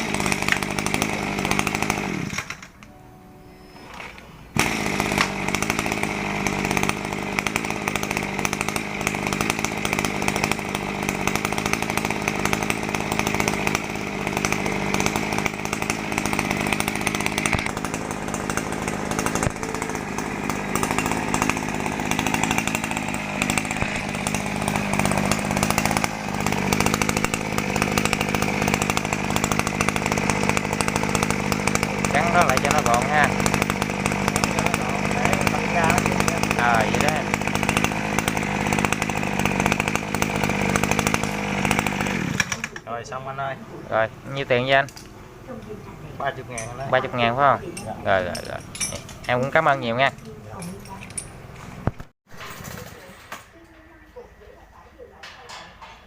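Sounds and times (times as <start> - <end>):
brush cutter engine running: 0.0 - 3.0, 3.9 - 53.1.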